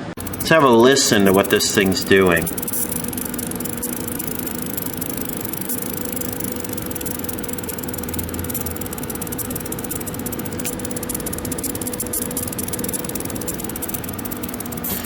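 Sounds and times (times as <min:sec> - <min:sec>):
wine cooler humming: 0:00.0 - 0:15.0
fast fine ticking rattle: 0:00.1 - 0:15.0.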